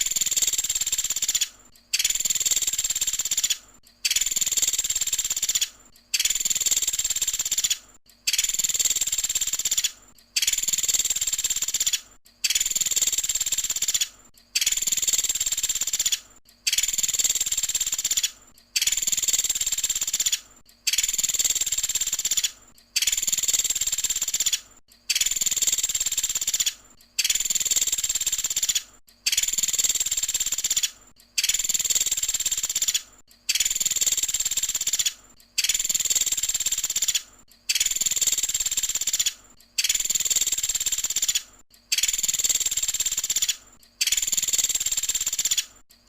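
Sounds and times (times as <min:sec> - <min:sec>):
woodpecker trilling call: 0:00.0 - 0:45.7.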